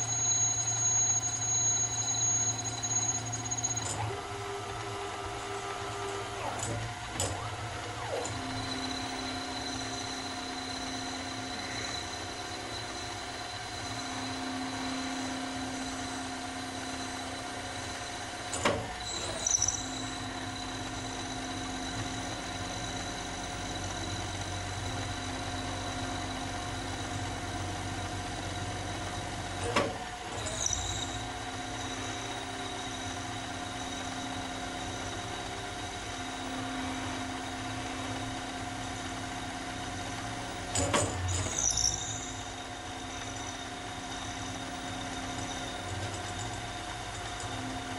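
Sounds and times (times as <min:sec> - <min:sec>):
lathe machine whine: 0:00.0 - 0:47.9.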